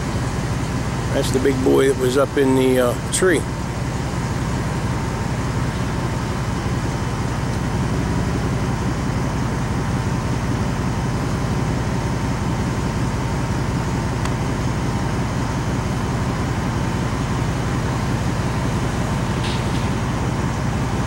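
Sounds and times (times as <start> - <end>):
vehicle idling rumble: 0.0 - 21.0.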